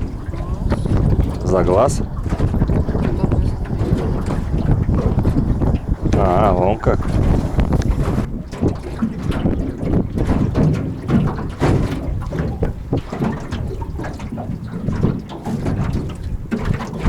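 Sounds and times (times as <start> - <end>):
water lapping against boat hull: 0.0 - 17.0
wind rumbling on microphone: 0.0 - 17.0.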